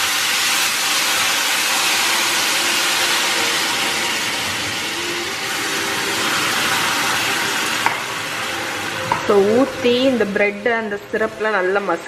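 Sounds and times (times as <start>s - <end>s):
hot syrup sizzling in a pan: 0.0s - 10.9s.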